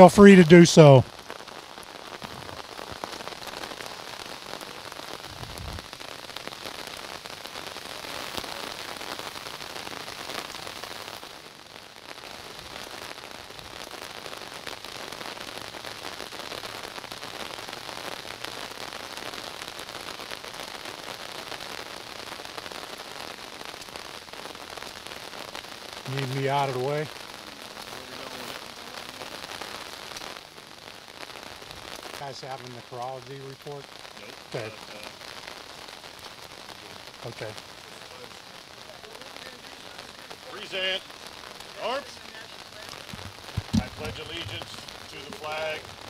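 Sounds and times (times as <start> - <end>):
rain on wet pavement: 0.0 - 46.0.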